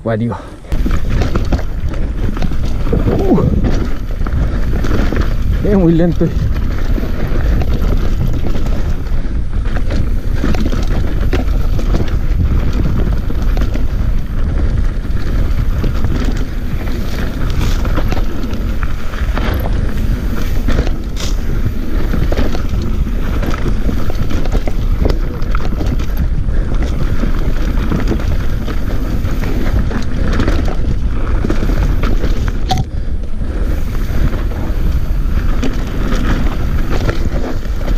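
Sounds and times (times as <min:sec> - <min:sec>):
wind buffeting microphone: 0:00.0 - 0:37.9
bike rattling over rocks: 0:00.6 - 0:37.9
tyre rumble on dirt: 0:00.7 - 0:37.9.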